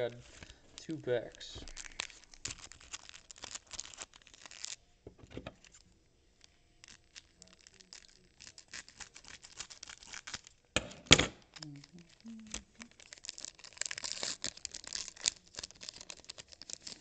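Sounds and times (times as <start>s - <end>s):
plastic wrapper crinkling: 0.0s - 10.8s, 11.4s - 17.0s.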